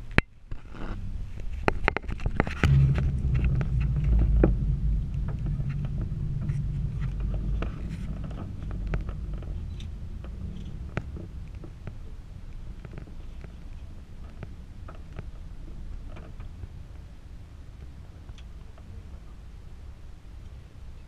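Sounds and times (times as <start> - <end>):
cable car rumble and hum: 0.0 - 21.0.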